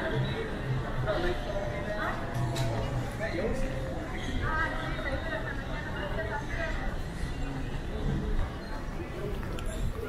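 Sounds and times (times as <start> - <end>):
faint background music: 0.0 - 10.0
murmur of distant voices: 0.0 - 10.0.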